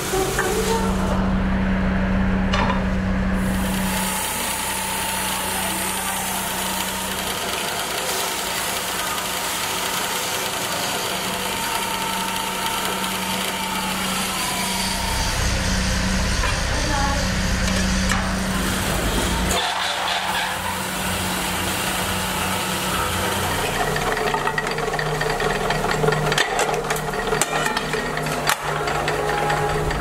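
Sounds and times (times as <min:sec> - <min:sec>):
lathe motor hum: 0:00.0 - 0:30.0
thin steady whine: 0:00.0 - 0:30.0
rags rubbing spinning metal: 0:03.4 - 0:30.0.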